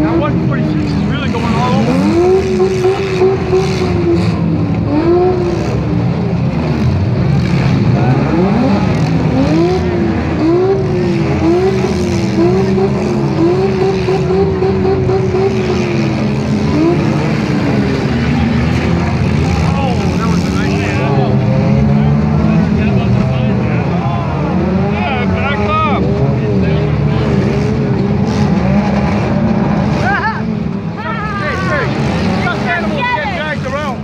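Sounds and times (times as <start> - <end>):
car engine revving: 0.0 - 34.0
engines rumbling: 0.0 - 34.0.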